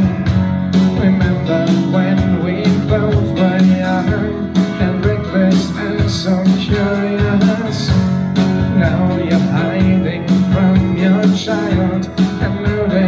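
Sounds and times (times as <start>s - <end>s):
acoustic guitar chords: 0.0s - 13.0s
man singing: 0.0s - 13.0s.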